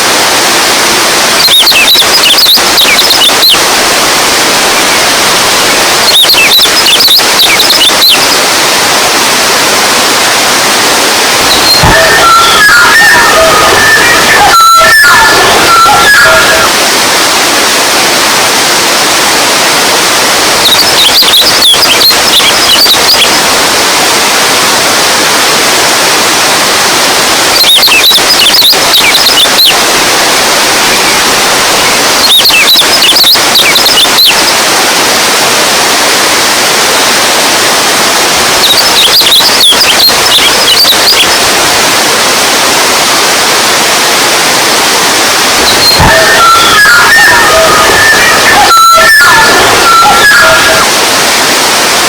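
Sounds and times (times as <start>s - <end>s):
water rushing: 0.0s - 52.0s.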